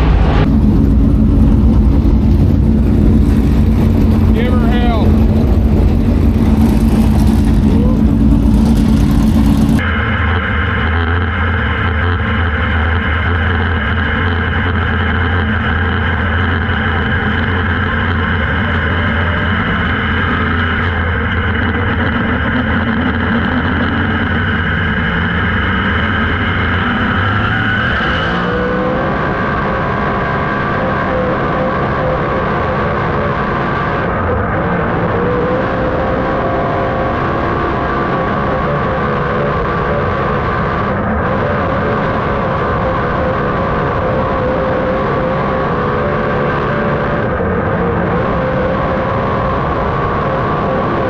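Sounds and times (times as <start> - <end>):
race car engine at high revs: 0.0 - 51.0.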